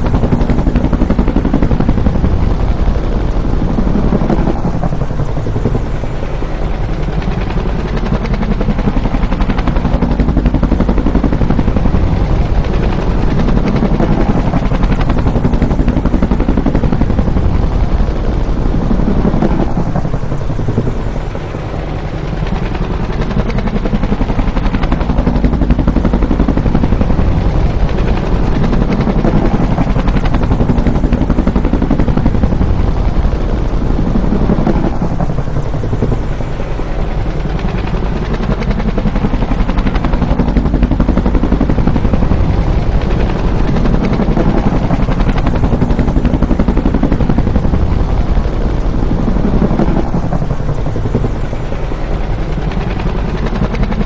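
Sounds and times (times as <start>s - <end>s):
helicopter passing: 0.0s - 54.0s.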